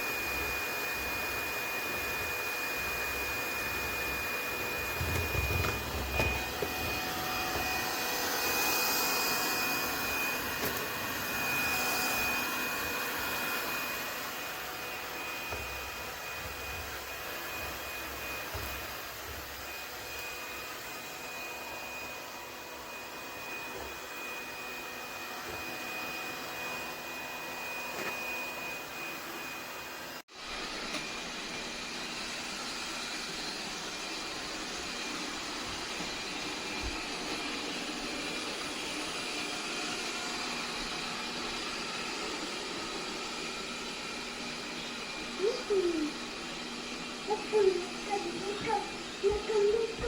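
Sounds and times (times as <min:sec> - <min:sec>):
robot vacuum whirring: 0:00.0 - 0:29.8, 0:30.5 - 0:50.0.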